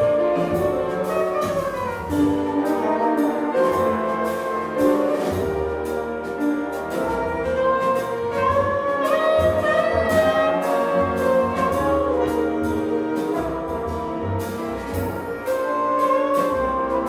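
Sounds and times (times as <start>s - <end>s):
bass: 0.0s - 17.0s
brass and reeds playing chords: 0.0s - 17.0s.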